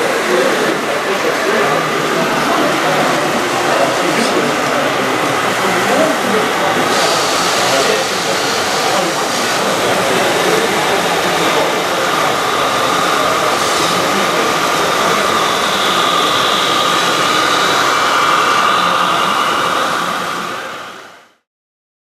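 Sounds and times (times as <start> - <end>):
electric motor whine: 0.8 - 21.2.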